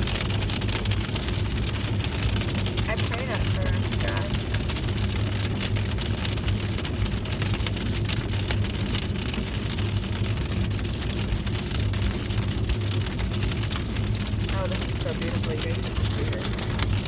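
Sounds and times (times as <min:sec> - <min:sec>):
car engine idling hum: 0:00.0 - 0:17.0
rain drops ticking on car: 0:00.0 - 0:17.0.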